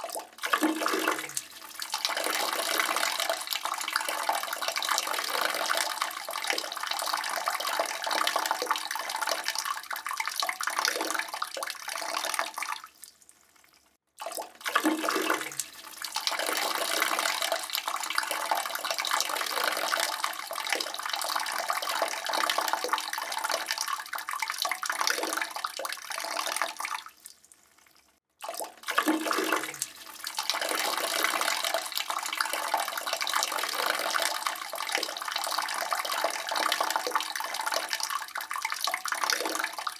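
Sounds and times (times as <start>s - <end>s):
urine splashing into toilet bowl: 0.0s - 27.4s, 28.4s - 39.9s.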